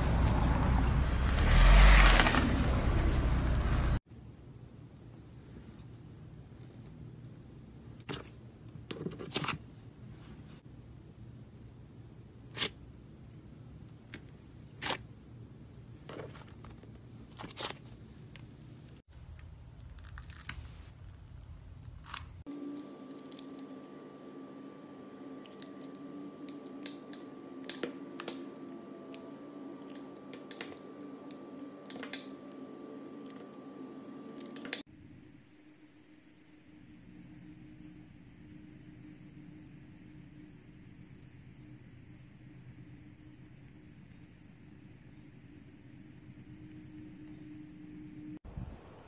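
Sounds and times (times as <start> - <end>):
faint steady hum: 3.6 - 49.0.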